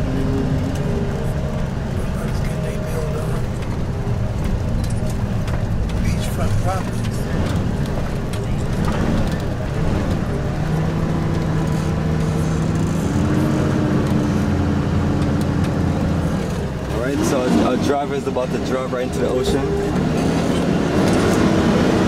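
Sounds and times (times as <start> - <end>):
van engine running: 0.0 - 22.0.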